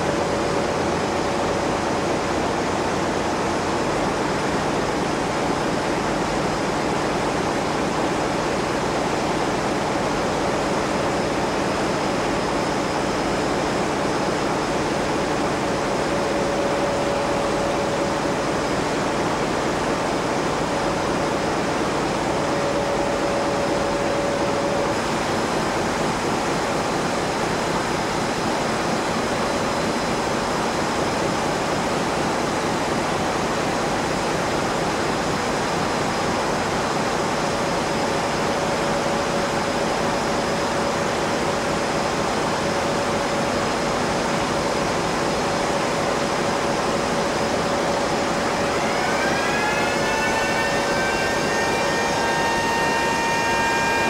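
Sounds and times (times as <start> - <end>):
thin steady whine: 0.0 - 54.0.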